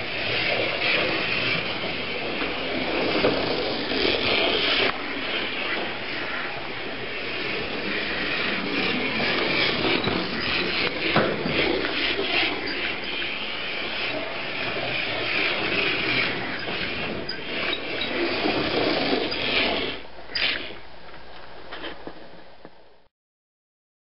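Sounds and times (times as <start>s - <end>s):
slot car electric motor whirring: 0.0s - 20.8s
wheels rubbing along slot: 0.0s - 22.6s.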